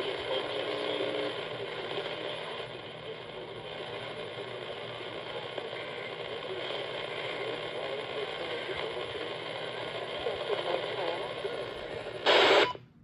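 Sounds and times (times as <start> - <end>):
faint indistinct talk: 0.0 - 12.6
radio static hiss: 0.0 - 12.9.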